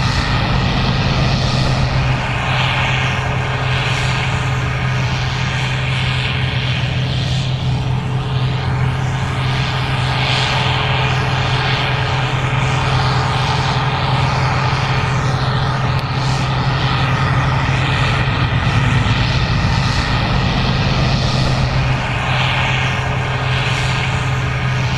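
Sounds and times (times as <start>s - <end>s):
combine harvester engine drone: 0.0s - 24.9s.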